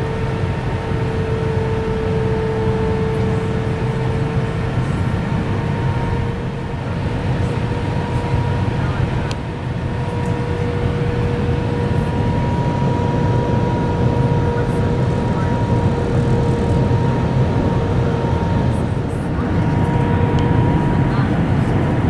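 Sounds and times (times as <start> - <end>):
constant high whine: 0.0 - 22.0
jet cabin engine roar: 0.0 - 22.0.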